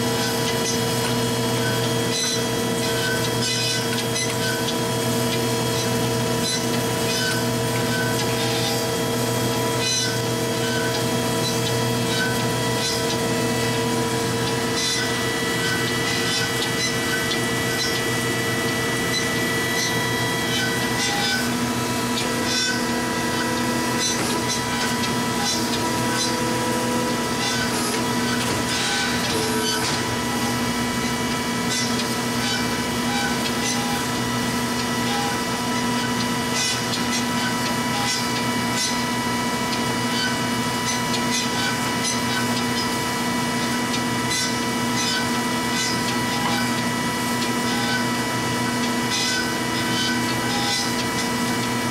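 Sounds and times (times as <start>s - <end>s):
band saw humming: 0.0s - 51.9s.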